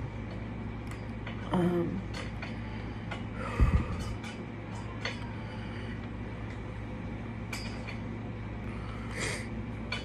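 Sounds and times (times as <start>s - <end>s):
steady low background hum: 0.0s - 10.0s.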